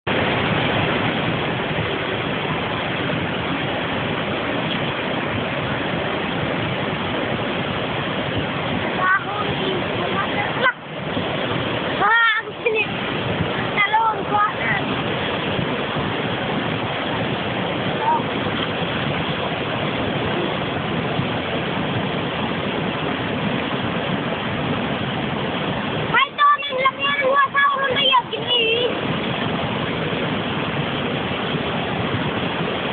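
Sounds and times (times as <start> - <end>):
floodwater rushing: 0.0 - 32.9.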